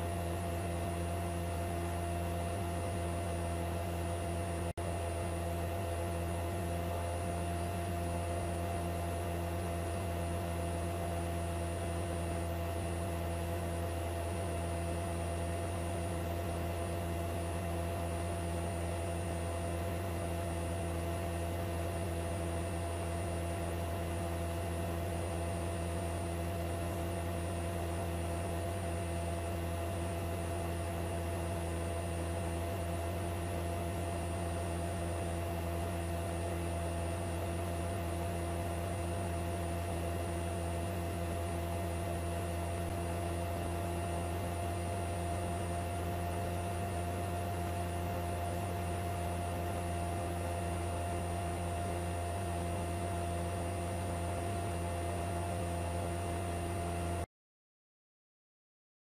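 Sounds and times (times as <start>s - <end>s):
helicopter engine and rotor drone: 0.0s - 57.3s.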